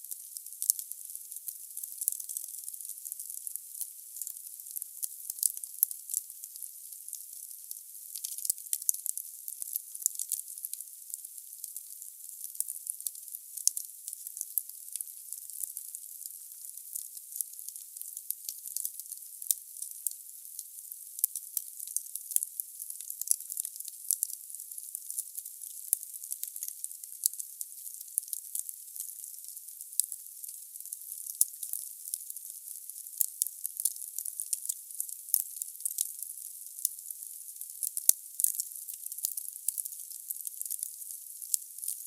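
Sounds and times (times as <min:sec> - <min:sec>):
firewood crackling in a fireplace: 0:00.0 - 0:42.0.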